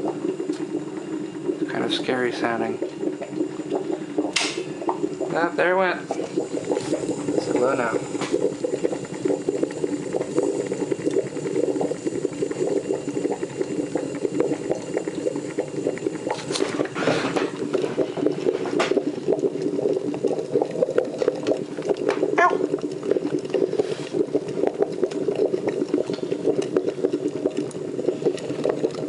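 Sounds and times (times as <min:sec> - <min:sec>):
coffee maker boiling and bubbling: 0:00.0 - 0:29.0.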